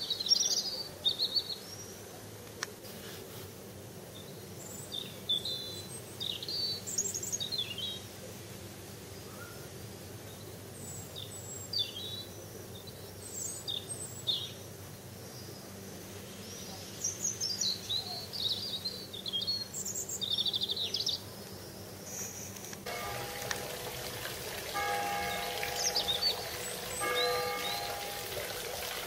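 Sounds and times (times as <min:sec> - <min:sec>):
songbirds chirping: 0:00.0 - 0:02.8, 0:03.7 - 0:29.0
low background noise: 0:00.0 - 0:29.0.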